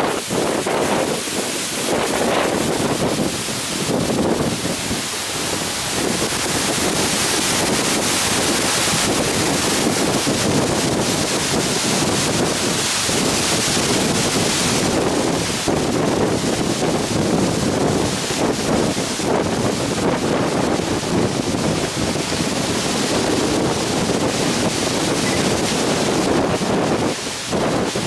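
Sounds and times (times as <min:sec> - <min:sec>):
water rushing and spray: 0:00.0 - 0:28.0
wind buffeting microphone: 0:00.0 - 0:28.0.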